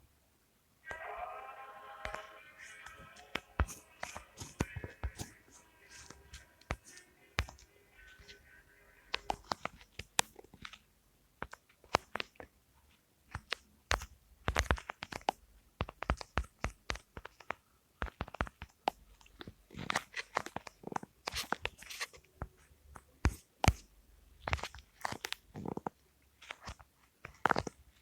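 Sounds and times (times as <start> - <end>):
close-up crunching and crackling: 2.0 - 28.0.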